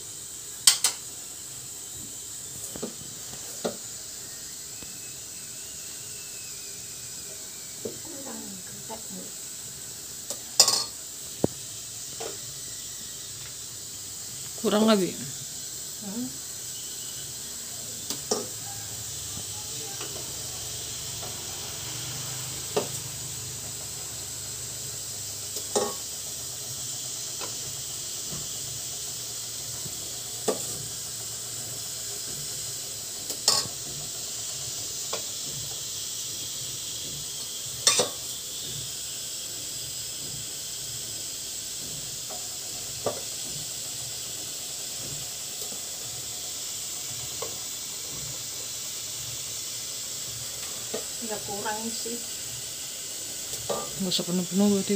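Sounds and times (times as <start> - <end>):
steamer pot hissing: 0.0 - 54.9.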